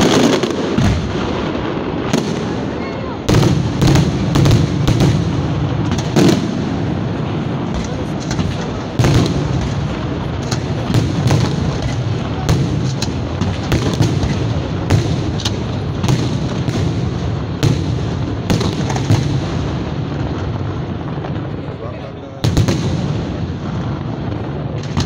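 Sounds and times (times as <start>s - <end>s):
fireworks booming: 0.0s - 25.0s
fireworks rumble and crackle: 0.0s - 25.0s.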